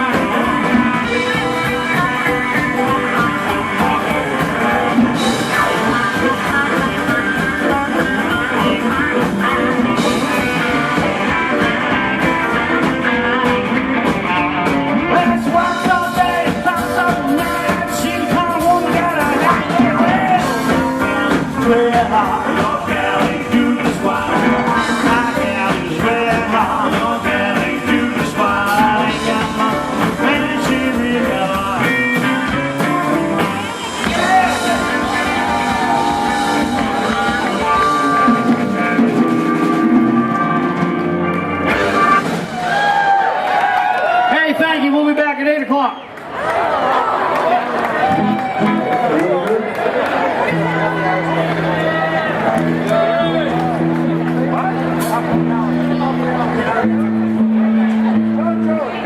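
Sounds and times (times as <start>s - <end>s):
live blues rock band: 0.0s - 44.9s, 46.1s - 59.0s
guitar: 0.0s - 59.0s.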